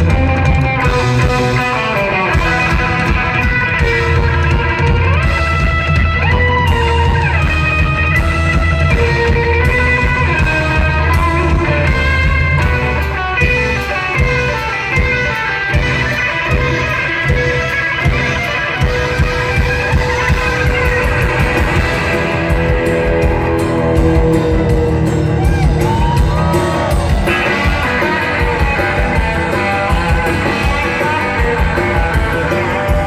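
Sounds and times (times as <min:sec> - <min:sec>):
rockabilly band playing: 0:00.0 - 0:33.0
sliding electric guitar lines: 0:00.0 - 0:33.0.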